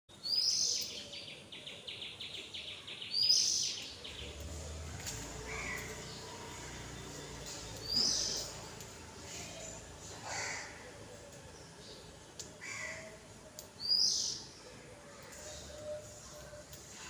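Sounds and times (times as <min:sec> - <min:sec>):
sparrows chirping: 0:00.1 - 0:17.0.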